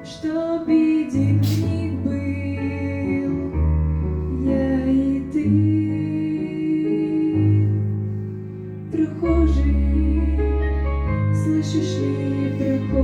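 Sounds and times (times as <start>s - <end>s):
slow gentle instrumental music: 0.0s - 13.0s.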